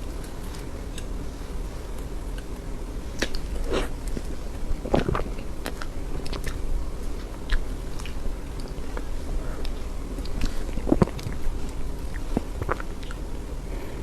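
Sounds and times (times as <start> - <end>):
person eating cake: 0.2 - 13.9
mouth clicks and smacks: 2.0 - 13.3.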